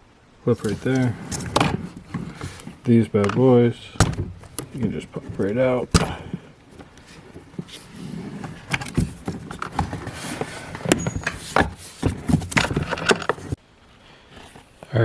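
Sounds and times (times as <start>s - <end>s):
rustling: 0.1s - 14.9s
sharp clicks and knocks: 0.6s - 13.6s.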